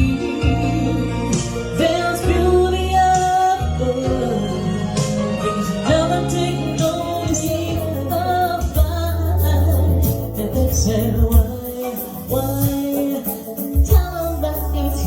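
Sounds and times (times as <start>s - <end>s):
backing track with bass line: 0.0s - 15.0s
woman singing: 0.0s - 15.0s.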